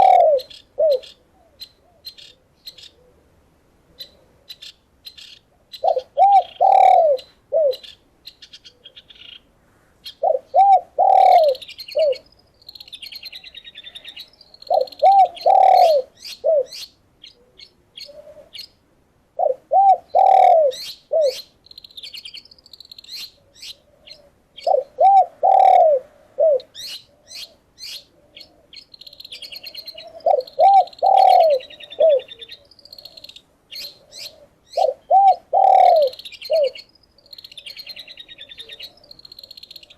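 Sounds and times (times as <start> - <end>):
dove cooing: 0.0 - 3.3, 5.8 - 7.9, 10.2 - 18.7, 19.4 - 21.5, 23.3 - 39.9
songbirds chirping and trilling: 0.0 - 39.9.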